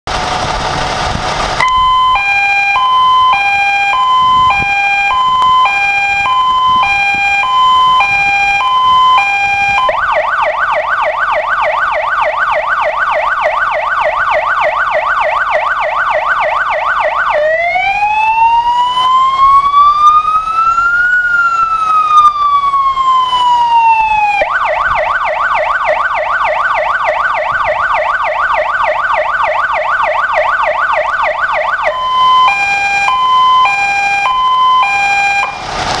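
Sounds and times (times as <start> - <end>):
fire engine siren: 0.1 - 36.0.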